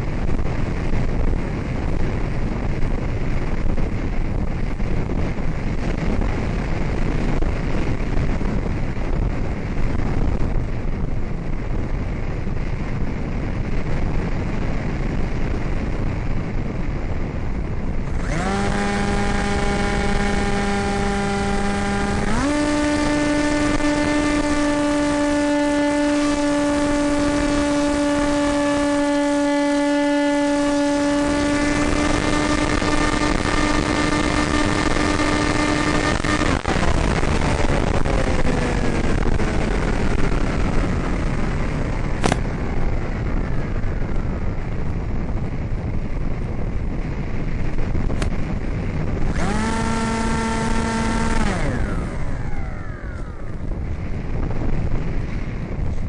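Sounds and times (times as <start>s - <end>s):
electric motor and propeller whine: 0.0s - 56.0s
wind rushing over microphone: 0.0s - 56.0s.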